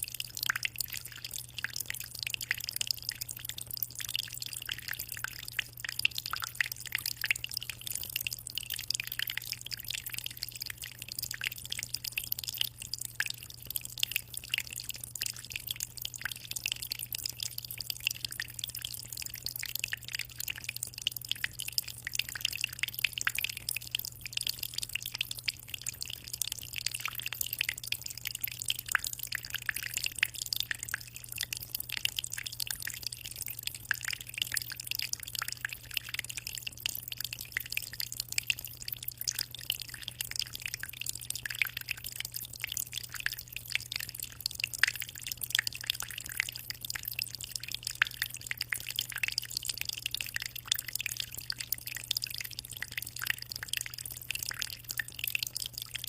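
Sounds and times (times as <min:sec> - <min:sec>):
aquarium water trickling and splashing: 0:00.0 - 0:56.0.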